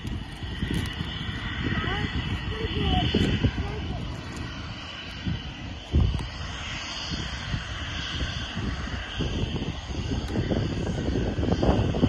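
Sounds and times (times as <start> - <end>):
jet engines whining: 0.0 - 12.0
low rumble: 0.0 - 12.0.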